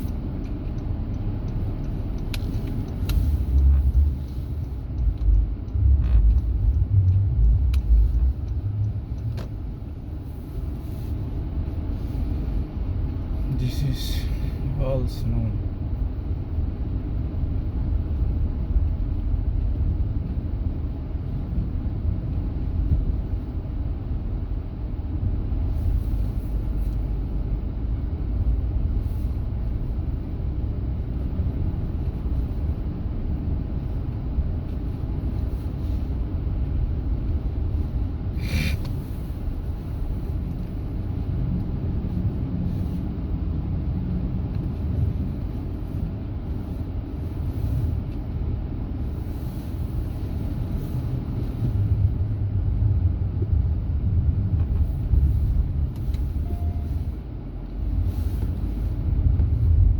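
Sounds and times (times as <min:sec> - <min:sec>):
vehicle rumble: 0:00.0 - 0:59.9.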